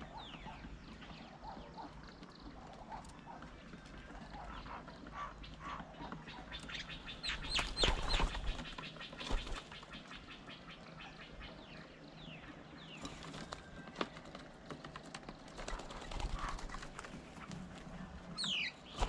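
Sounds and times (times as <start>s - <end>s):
birds calling and chirping: 0.0s - 19.0s.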